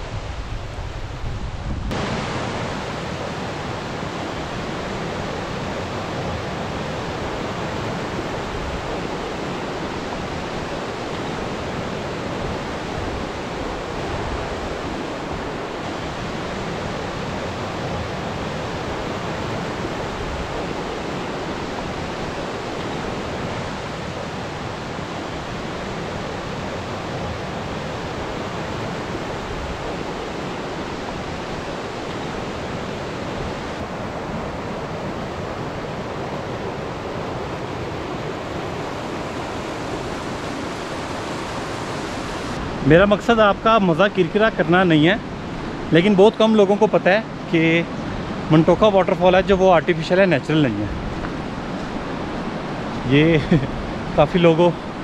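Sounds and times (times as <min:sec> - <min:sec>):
waterfall rushing: 0:01.9 - 0:55.0.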